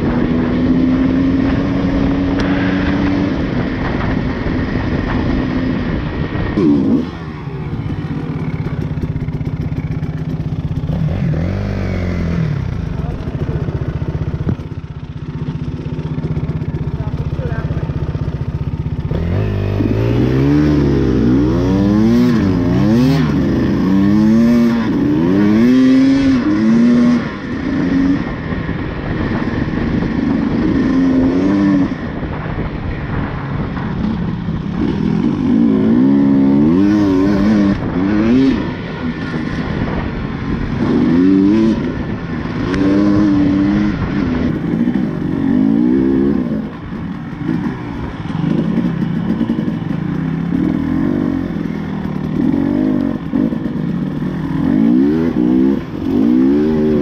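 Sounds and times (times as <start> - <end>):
dirt bike engine revving: 0.0 - 32.6, 33.7 - 57.0.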